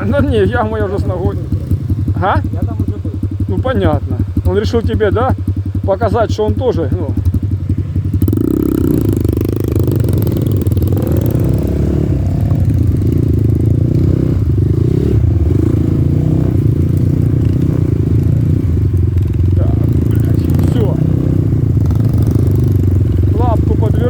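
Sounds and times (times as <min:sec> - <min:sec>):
motorcycle clatter: 0:00.0 - 0:24.0
motorcycle engine revving: 0:00.0 - 0:24.0.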